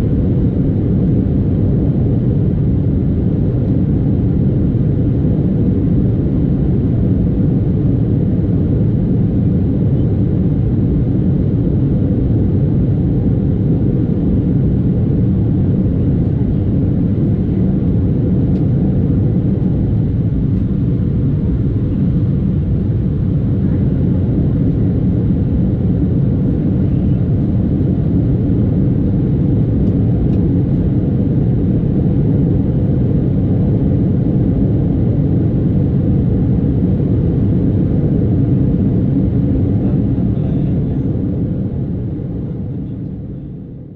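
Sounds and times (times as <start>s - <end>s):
jet engines rumbling in cabin: 0.0s - 43.9s.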